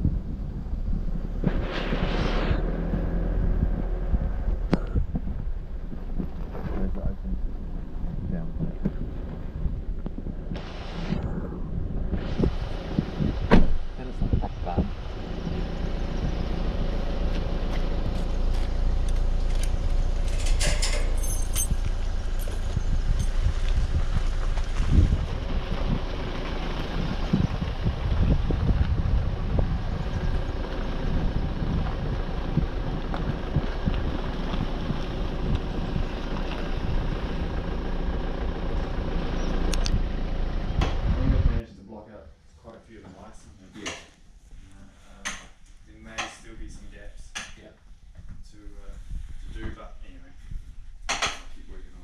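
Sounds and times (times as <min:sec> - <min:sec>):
vehicle engine rumble: 0:00.0 - 0:41.6
wind noise: 0:00.0 - 0:41.6, 0:48.0 - 0:52.0.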